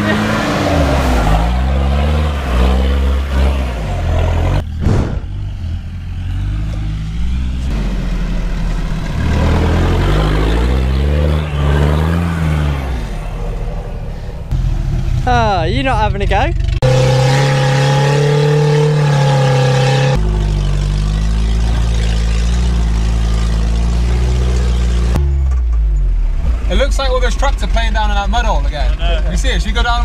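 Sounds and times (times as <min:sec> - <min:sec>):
off-road engine revving: 0:00.0 - 0:30.0.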